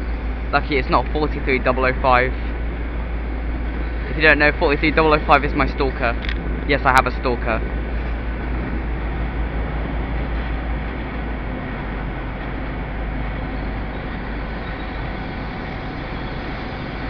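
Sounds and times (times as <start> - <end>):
train diesel engines rumbling: 0.0 - 17.0.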